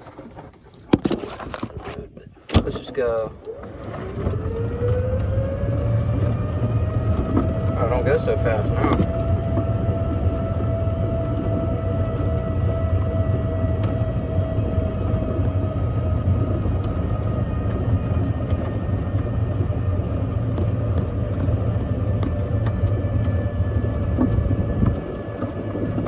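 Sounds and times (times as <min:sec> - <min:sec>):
faint whine: 0:02.0 - 0:26.0
vehicle engine running: 0:02.5 - 0:26.0.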